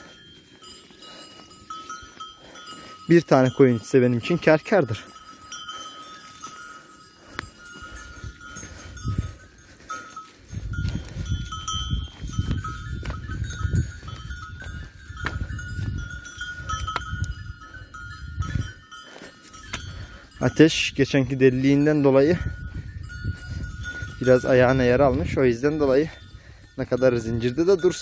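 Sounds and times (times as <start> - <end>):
sheep bells clinking: 0.0 - 28.0.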